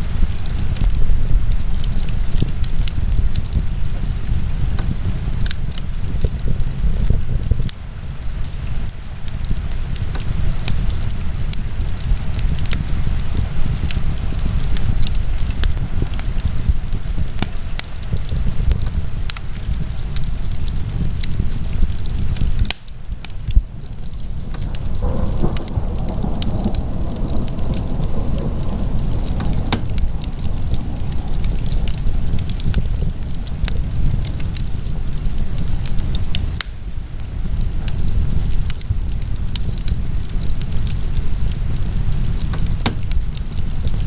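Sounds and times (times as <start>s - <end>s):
low rumble of flames: 0.0s - 44.0s
wood fire crackling and popping: 0.0s - 44.0s.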